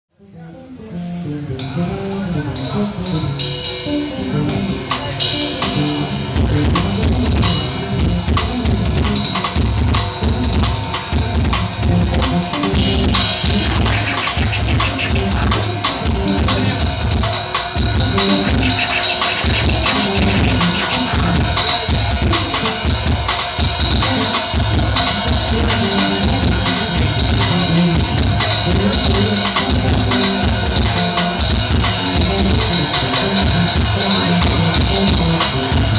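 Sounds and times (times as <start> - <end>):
drum kit playing a beat: 1.4 - 35.9.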